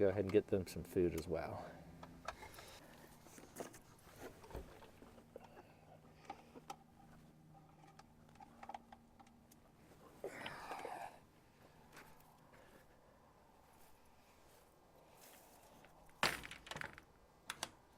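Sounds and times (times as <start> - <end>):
low steady hum: 0.0 - 16.2.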